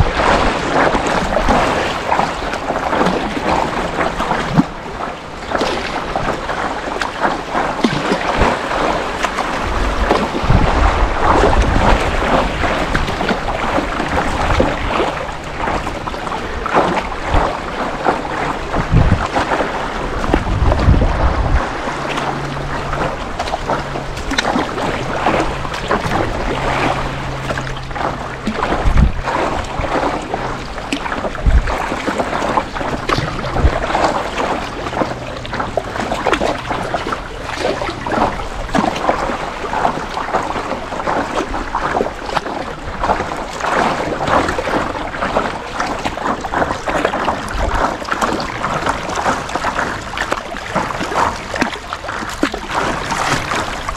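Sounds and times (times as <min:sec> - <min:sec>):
paddle strokes: 0:00.0 - 0:53.9
water splashing against hull: 0:00.0 - 0:53.9
wind buffeting microphone: 0:00.0 - 0:53.9.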